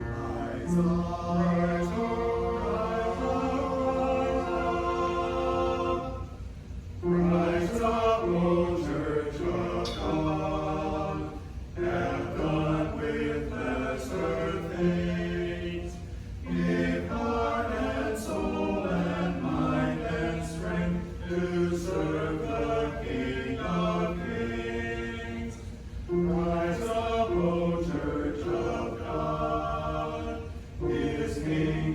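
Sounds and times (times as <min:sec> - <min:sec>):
group singing a hymn: 0:00.0 - 0:31.9
low steady hum: 0:00.0 - 0:31.9.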